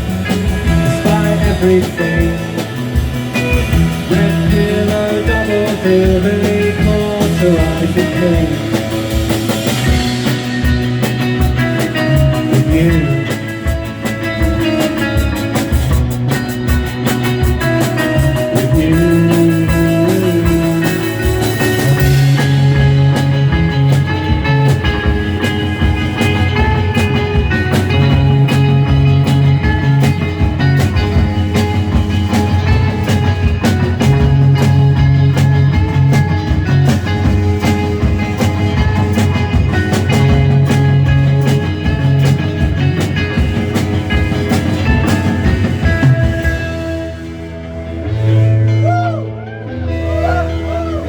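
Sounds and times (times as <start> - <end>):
drum kit beat: 0.0 - 49.2
bass guitar figure: 0.0 - 51.0
electric guitar: 0.0 - 51.0.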